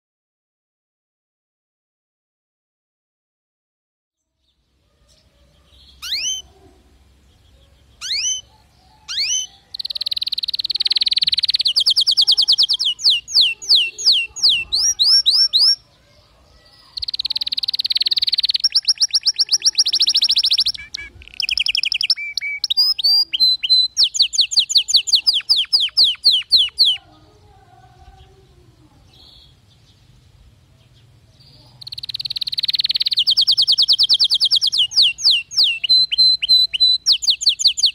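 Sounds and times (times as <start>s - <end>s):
canary singing trills: 4.2s - 37.9s.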